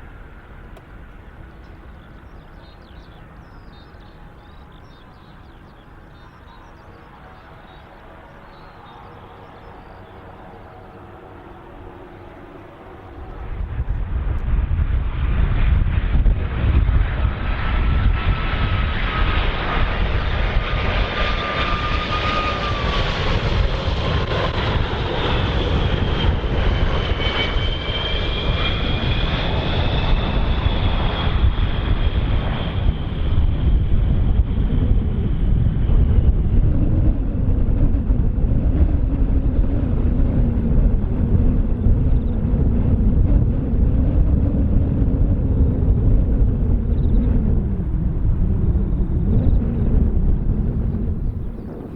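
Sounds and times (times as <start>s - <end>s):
jet engine whine: 0.0s - 51.9s
low hum: 0.0s - 51.9s.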